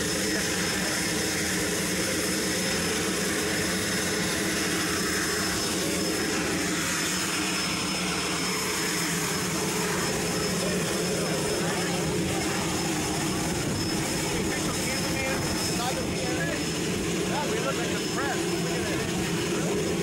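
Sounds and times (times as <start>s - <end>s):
turboprop engine idling: 0.0s - 20.0s.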